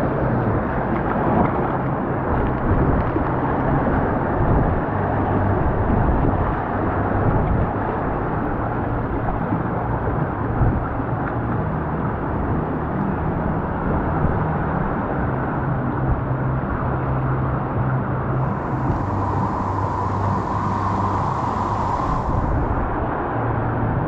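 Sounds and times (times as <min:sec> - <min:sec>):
rushing water low rumbling wash: 0:00.0 - 0:24.0.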